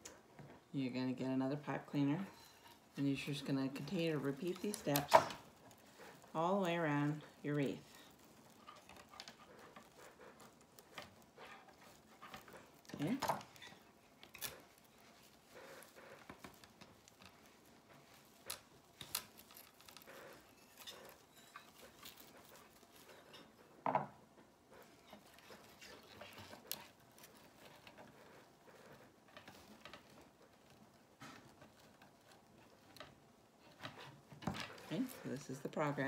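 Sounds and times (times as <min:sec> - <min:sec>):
rustling and light tapping: 0:00.0 - 0:36.0.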